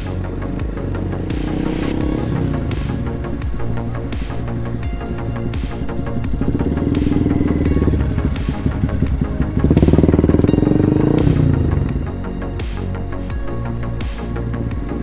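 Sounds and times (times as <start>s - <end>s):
motorcycle engine revving: 0.0s - 12.9s
background music with steady beat: 0.0s - 15.0s.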